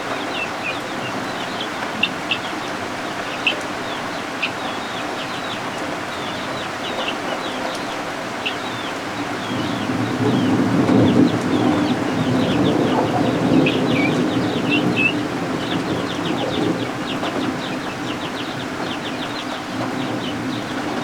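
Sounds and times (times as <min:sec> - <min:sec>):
chicks peeping: 0:00.0 - 0:21.0
rain hissing: 0:00.0 - 0:21.0.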